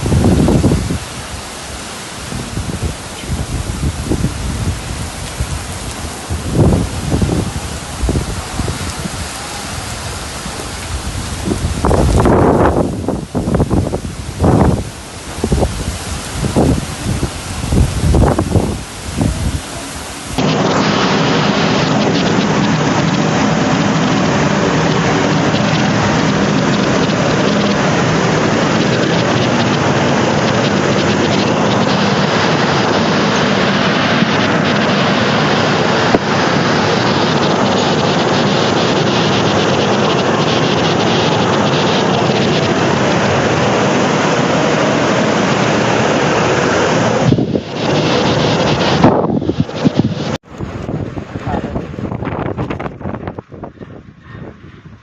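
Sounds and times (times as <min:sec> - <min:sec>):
low thunder rumbling: 0:00.0 - 0:01.5, 0:02.2 - 0:55.0
heavy rain downpour: 0:00.0 - 0:54.2
wind: 0:00.0 - 0:55.0
wind buffeting microphone: 0:00.0 - 0:55.0.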